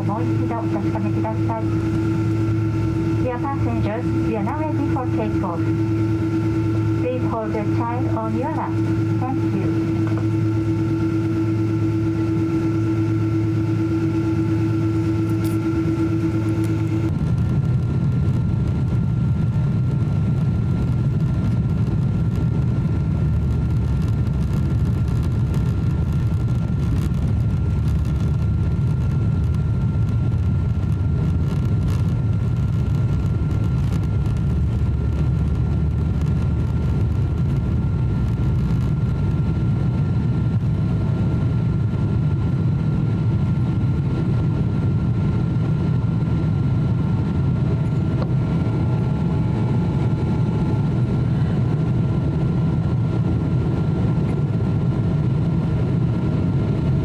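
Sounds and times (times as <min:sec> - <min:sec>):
high engine whine: 0:00.0 - 0:57.0
jet engines rumbling in cabin: 0:00.0 - 0:57.0.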